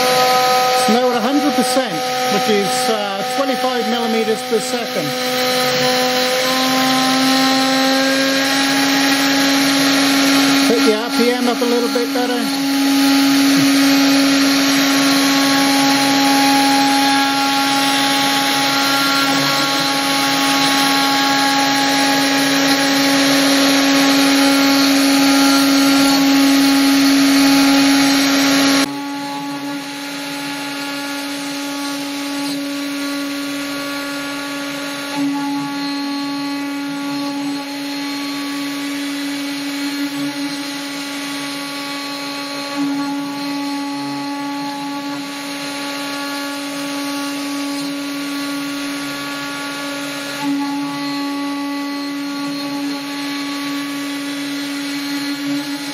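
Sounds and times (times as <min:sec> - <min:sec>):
bit rasping through wood: 0:00.0 - 0:55.9
router spindle whine: 0:00.0 - 0:55.9.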